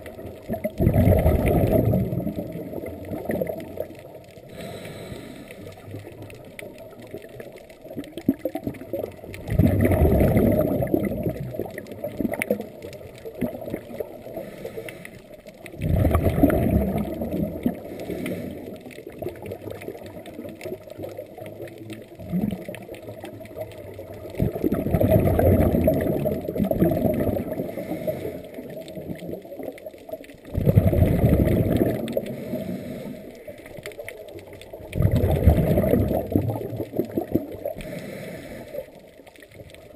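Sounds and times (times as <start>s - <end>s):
gurgling exhaust bubbles underwater: 0.0s - 39.9s
water noise: 0.0s - 39.9s.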